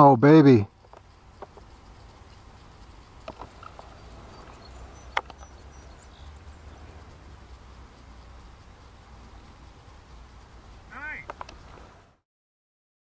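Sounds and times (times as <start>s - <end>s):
faint clicks: 0.7s - 12.1s.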